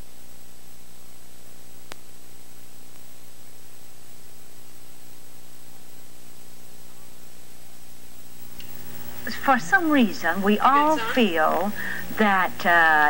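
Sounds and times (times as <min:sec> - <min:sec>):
faint high whine: 0:00.0 - 0:13.0
low electrical hum: 0:00.0 - 0:13.0
steady hiss: 0:00.0 - 0:13.0.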